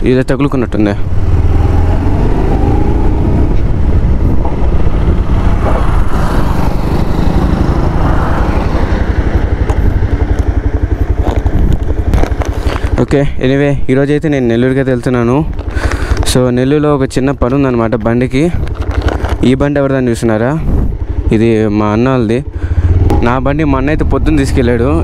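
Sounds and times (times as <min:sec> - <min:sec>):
motorcycle engine running: 0:00.9 - 0:25.0.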